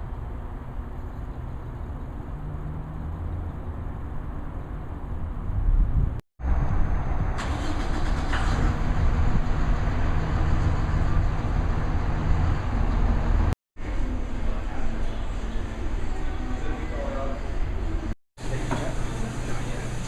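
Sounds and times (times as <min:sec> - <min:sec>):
road and wind noise: 0:00.0 - 0:18.2
vehicle engine rumble: 0:00.0 - 0:19.6.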